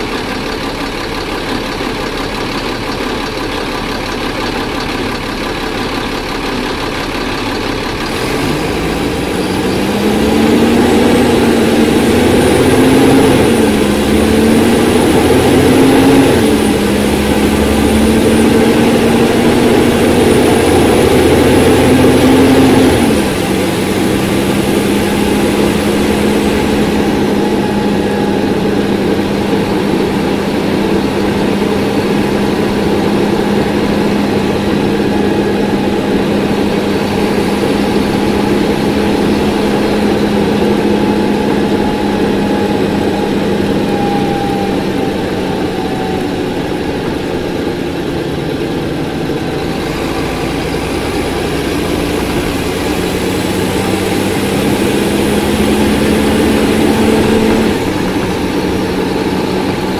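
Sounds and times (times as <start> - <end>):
bus diesel engine accelerating: 0.0 - 59.9.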